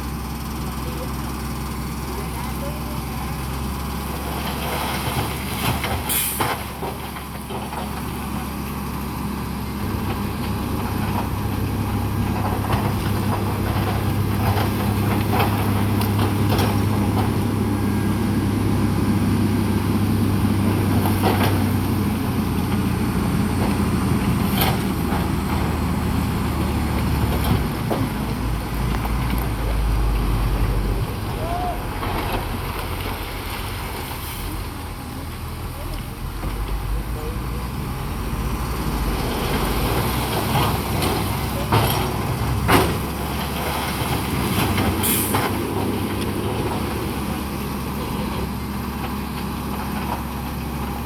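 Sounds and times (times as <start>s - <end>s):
diesel machinery engine running: 0.0s - 51.0s.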